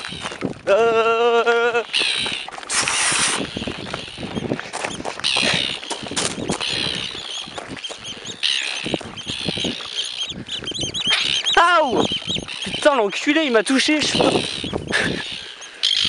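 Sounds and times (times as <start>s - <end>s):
quick footsteps: 0.0s - 0.9s, 1.9s - 15.4s
birds calling harshly: 0.0s - 16.0s
rustling of vegetation: 0.0s - 16.0s.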